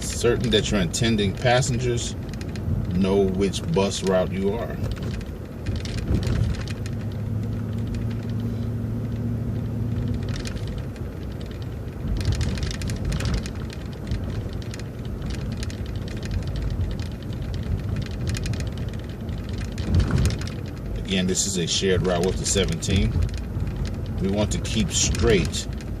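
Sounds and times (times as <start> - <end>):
bus body rattling and knocking: 0.0 - 8.6, 9.6 - 26.0
bus engine humming: 0.0 - 26.0.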